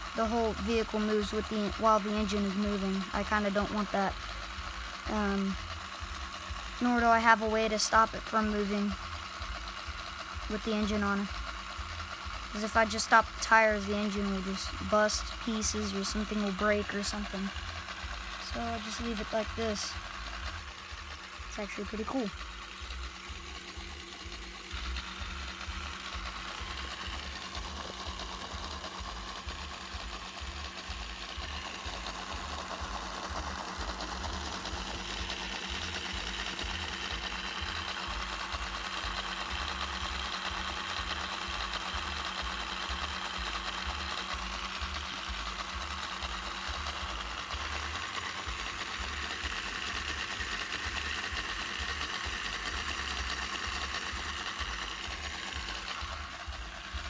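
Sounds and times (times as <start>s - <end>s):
small electric motor whirring: 0.0s - 57.0s.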